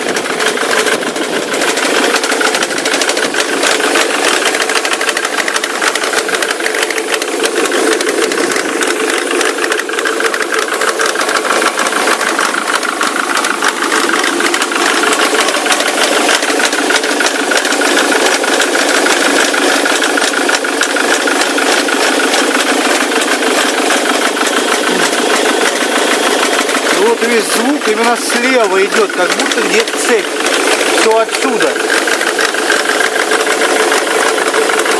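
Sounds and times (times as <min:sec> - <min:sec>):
diesel engine idling: 0:00.0 - 0:34.9
rapid engine knocking: 0:00.0 - 0:34.9.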